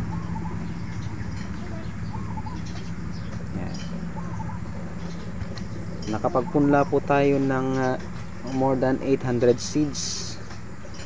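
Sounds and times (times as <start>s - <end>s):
bird calling: 0.0s - 9.0s
steady low hum: 0.0s - 11.0s.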